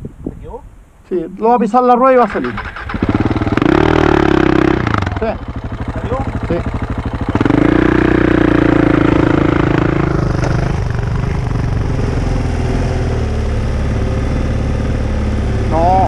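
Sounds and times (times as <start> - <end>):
motorcycle engine running: 2.4 - 16.0.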